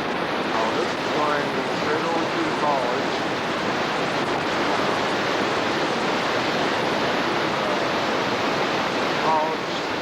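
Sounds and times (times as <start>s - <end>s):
floodwater rushing over dam: 0.0s - 10.0s.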